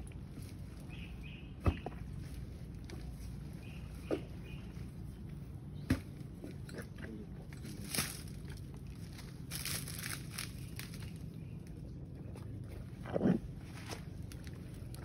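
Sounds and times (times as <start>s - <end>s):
crunching and scraping of earth: 0.0s - 15.0s.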